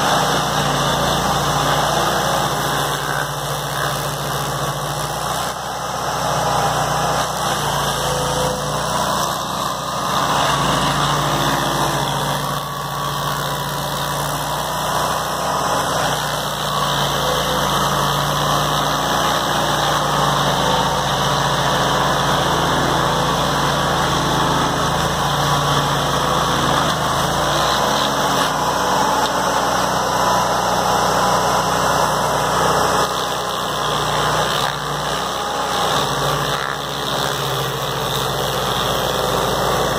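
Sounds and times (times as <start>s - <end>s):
cutter wheel grinding wood: 0.0s - 39.9s
stump grinder engine: 0.0s - 39.9s.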